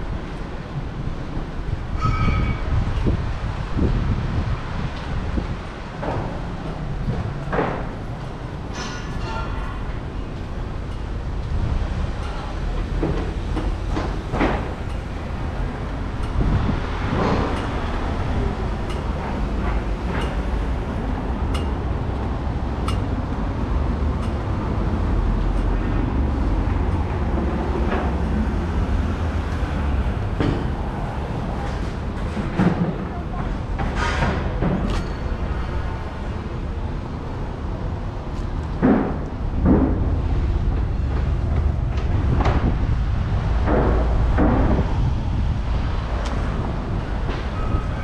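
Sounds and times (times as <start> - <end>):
rail vehicle rumbling: 0.0 - 48.0.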